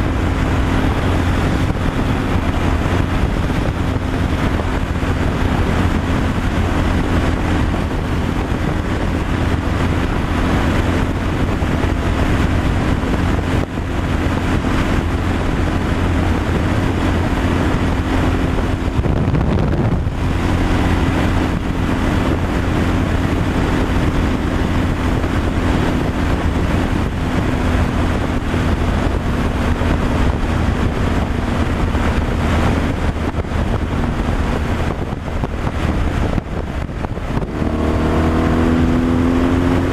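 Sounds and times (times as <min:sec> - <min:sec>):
road noise: 0:00.0 - 0:39.9
truck engine running: 0:00.0 - 0:39.9
wind noise: 0:00.0 - 0:39.9.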